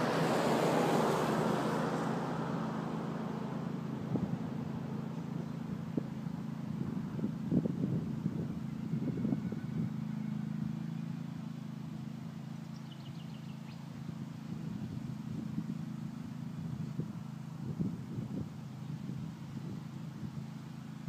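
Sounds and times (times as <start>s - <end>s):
distant ride-on mower engine: 0.0s - 21.0s.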